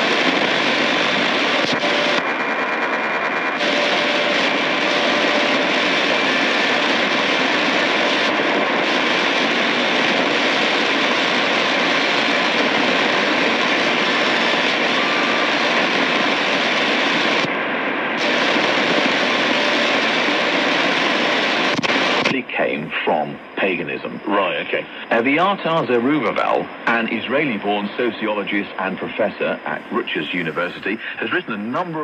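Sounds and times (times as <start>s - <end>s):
shortwave radio static hiss: 0.0s - 32.0s.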